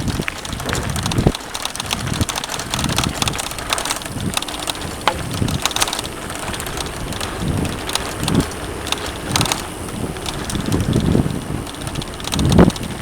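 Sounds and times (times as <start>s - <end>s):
bike clattering and rattling: 0.0s - 13.0s
bike tyres crunching on dirt: 0.0s - 13.0s.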